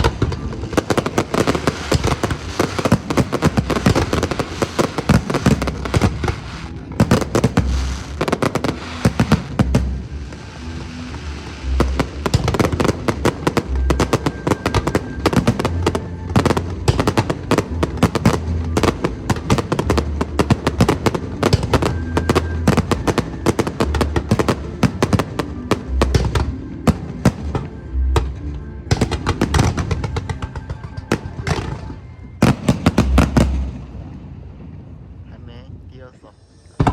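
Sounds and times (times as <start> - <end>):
fireworks cracking and banging: 0.0 - 34.9.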